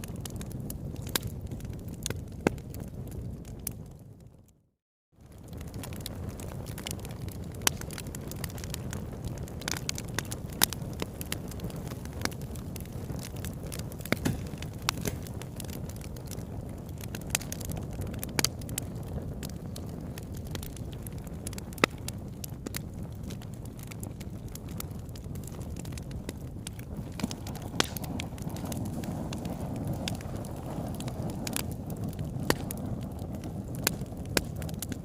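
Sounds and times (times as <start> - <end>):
campfire wood crackling: 0.0 - 4.6, 5.2 - 35.0
fire popping: 0.0 - 4.6, 5.2 - 35.0
low fire rumble: 0.0 - 35.0.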